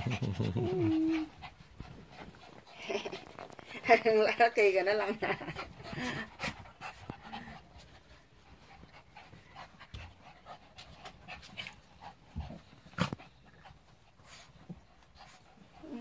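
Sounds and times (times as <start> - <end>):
dogs panting: 0.0 - 16.0
dogs scuffling on rug: 0.0 - 16.0.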